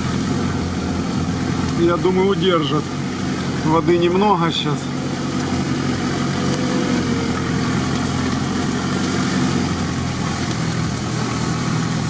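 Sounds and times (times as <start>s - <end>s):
off-road vehicle engine idling: 0.0s - 12.0s
reeds scraping against vehicle: 0.0s - 12.0s.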